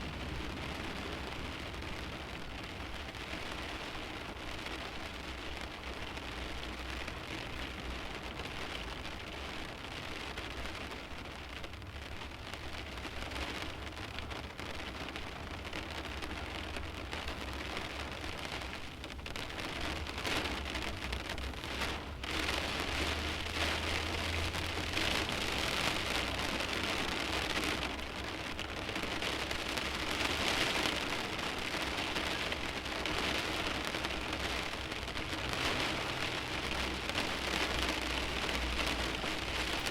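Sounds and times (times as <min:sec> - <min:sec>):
rain pattering on windshield: 0:00.0 - 0:39.9.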